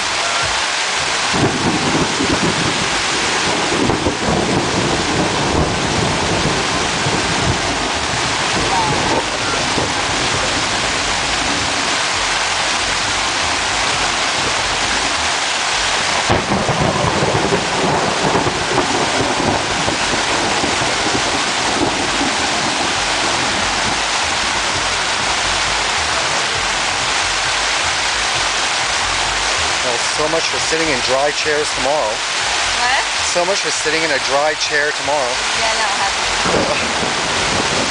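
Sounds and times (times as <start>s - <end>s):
heavy rain on a tent: 0.0s - 37.9s.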